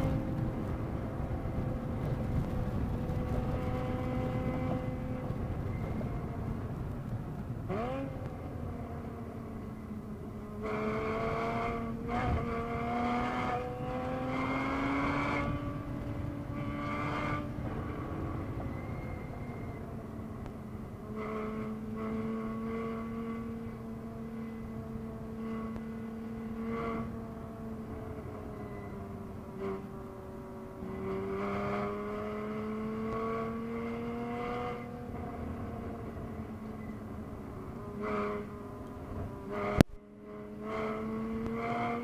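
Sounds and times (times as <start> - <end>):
car engine from inside cabin: 0.0 - 42.0.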